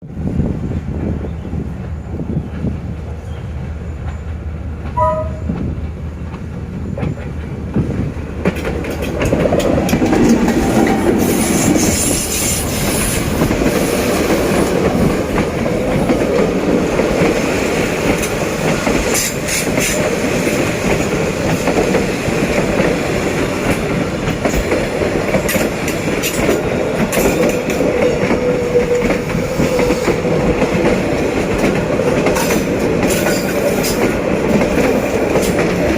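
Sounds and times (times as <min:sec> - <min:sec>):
train wheels clattering over rail joints: 0:04.0 - 0:35.9.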